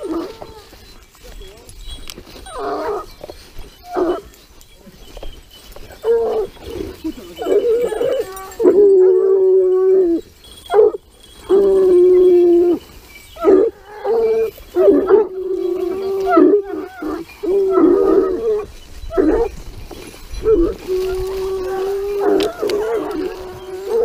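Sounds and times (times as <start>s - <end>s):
dogs yelping: 0.0s - 1.0s, 1.8s - 24.0s
hounds baying: 0.0s - 24.0s.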